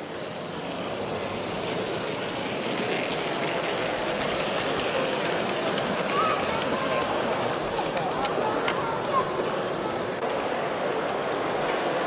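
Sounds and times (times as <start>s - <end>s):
model train whirring rattle: 0.0s - 12.0s.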